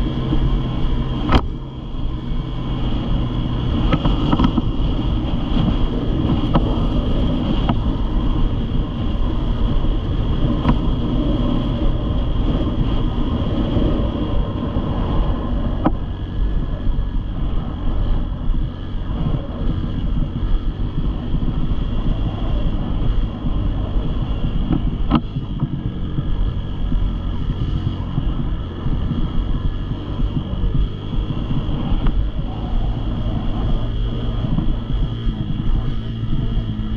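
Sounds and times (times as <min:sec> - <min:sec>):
dirt bike engine running: 0:00.0 - 0:36.9
wind noise on microphone: 0:00.0 - 0:36.9.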